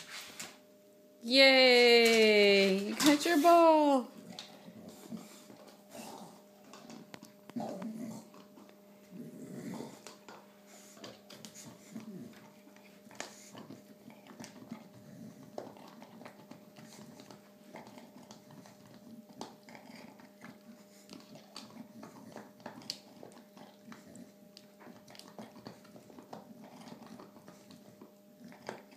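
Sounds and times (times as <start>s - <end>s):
dog chewing ball: 4.2s - 28.9s.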